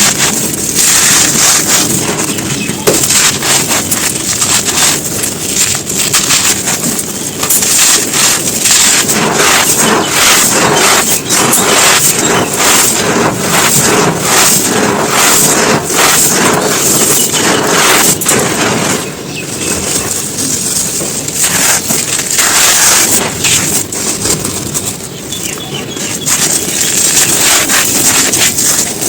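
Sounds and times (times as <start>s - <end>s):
brittle chunks crunching: 0.0s - 29.0s.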